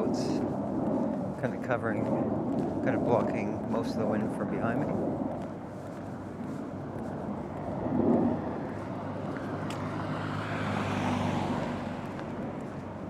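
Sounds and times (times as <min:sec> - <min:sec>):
car passing: 0:00.0 - 0:13.0
wind buffeting microphone: 0:00.0 - 0:13.0.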